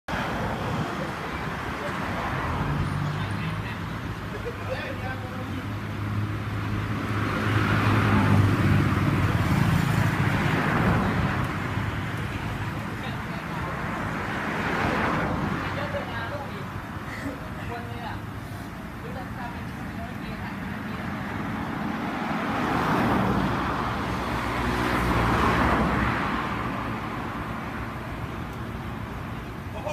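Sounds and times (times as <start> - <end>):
road noise: 0.0 - 29.9
passing vehicles rushing: 0.1 - 29.9.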